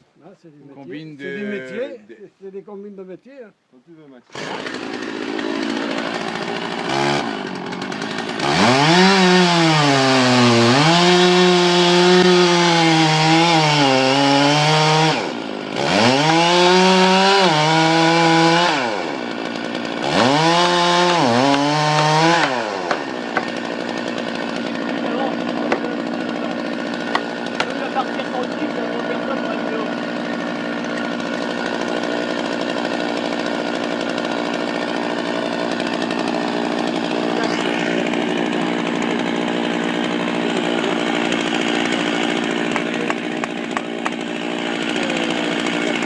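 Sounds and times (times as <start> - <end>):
chainsaw engine revving: 4.3 - 46.0.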